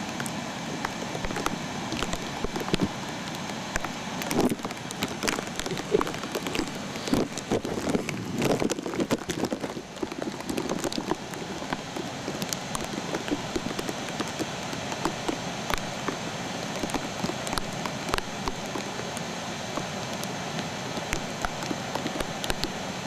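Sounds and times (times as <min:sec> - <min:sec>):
small clicks and pops: 0:00.0 - 0:22.9
floodwater rushing: 0:00.0 - 0:23.0.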